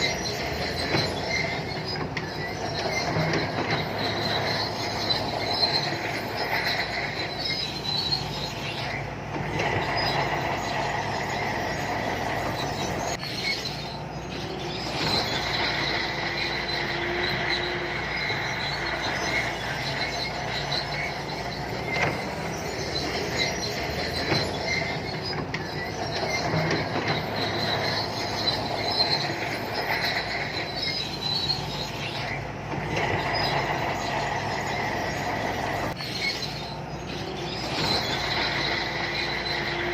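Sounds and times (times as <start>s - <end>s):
diesel engine running: 0.0s - 39.9s
steel tracks squealing: 0.0s - 39.9s.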